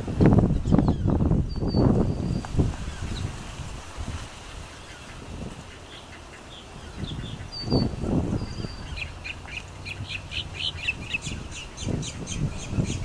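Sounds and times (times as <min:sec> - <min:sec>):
birds yipping calls: 0:00.5 - 0:03.4, 0:04.6 - 0:13.0.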